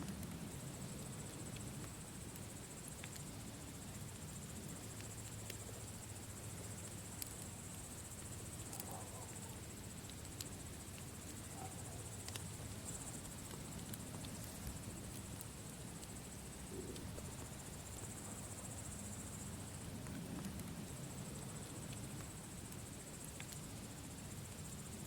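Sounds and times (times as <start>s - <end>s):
campfire crackling and popping: 0.0s - 11.5s, 12.1s - 25.0s
crickets chirring: 0.0s - 25.0s.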